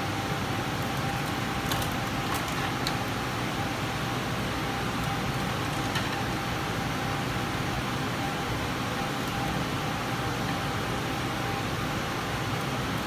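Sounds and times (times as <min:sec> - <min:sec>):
steady whirring noise: 0:00.0 - 0:13.0.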